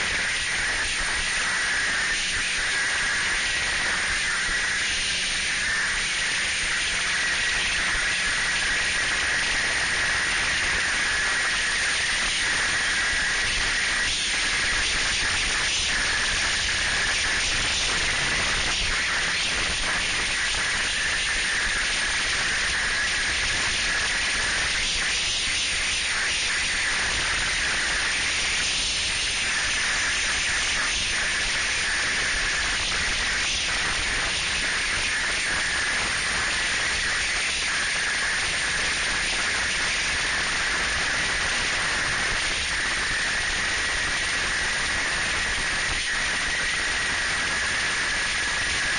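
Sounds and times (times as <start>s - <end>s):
snowmobile running at speed: 0.0s - 48.9s.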